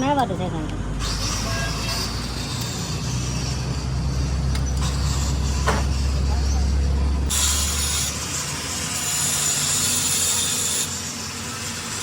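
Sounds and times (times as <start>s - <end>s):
tool scraping metal: 1.0s - 12.0s.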